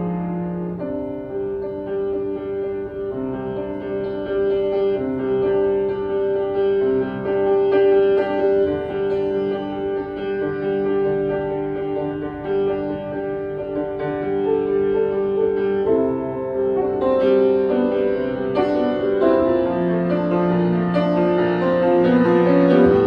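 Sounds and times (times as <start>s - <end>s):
solo piano: 0.0s - 23.0s.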